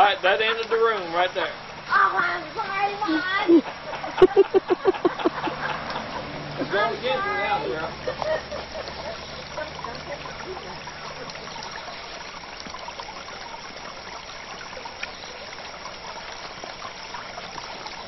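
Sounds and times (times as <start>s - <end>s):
fountain water trickling: 0.0s - 18.0s.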